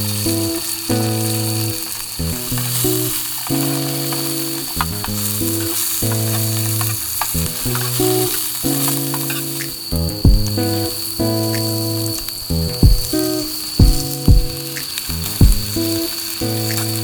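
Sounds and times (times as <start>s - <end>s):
background music with sustained chords: 0.0s - 17.0s
food sizzling in a pan: 0.0s - 17.0s.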